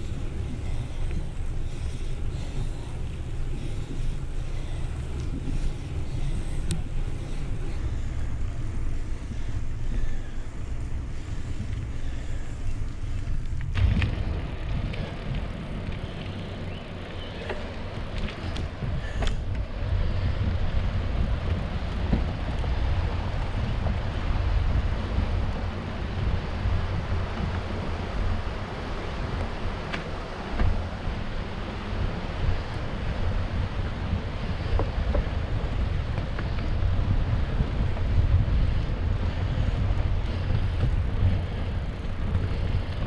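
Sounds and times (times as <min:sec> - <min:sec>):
wind buffeting the microphone: 0:00.0 - 0:43.0.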